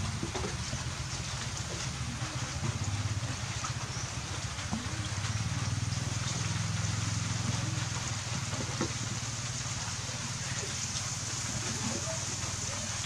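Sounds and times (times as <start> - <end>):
constant hiss: 0.0 - 13.0
low pulsing motor hum: 0.0 - 13.0.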